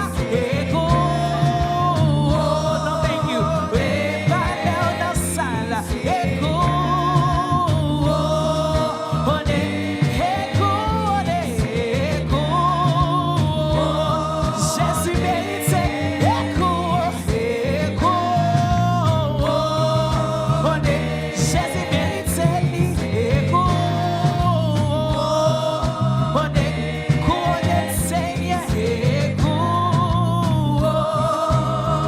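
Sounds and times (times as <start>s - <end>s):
instrumental backing with bass line: 0.0s - 32.0s
voices singing gospel song: 0.0s - 32.0s.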